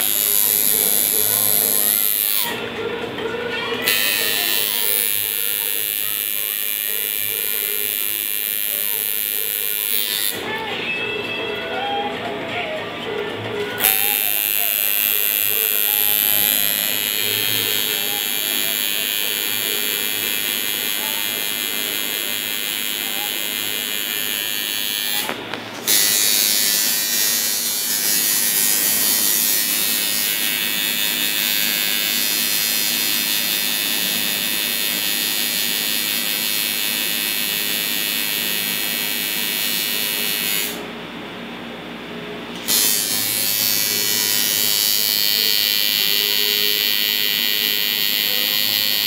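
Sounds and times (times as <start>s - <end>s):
tattoo machine buzzing: 0.0s - 2.6s, 3.8s - 10.6s, 13.8s - 40.9s, 42.6s - 49.0s.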